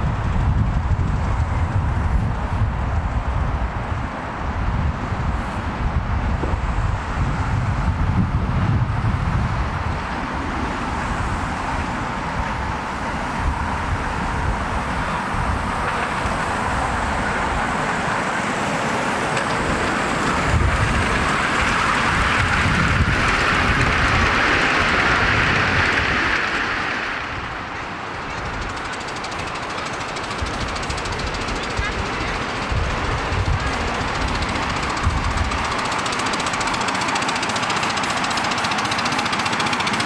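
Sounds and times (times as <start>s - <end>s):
miniature steam locomotive passing: 0.0s - 40.0s.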